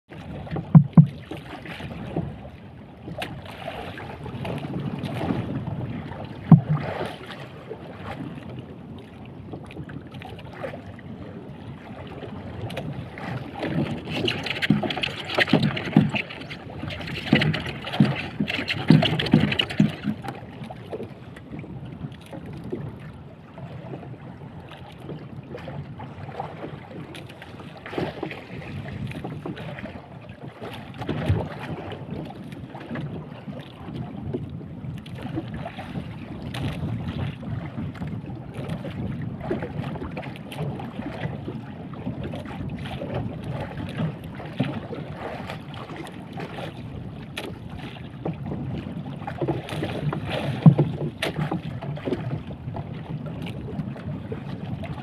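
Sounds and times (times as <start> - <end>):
waves slapping boat hull: 0.1 - 55.0
wind buffeting microphone: 1.8 - 55.0.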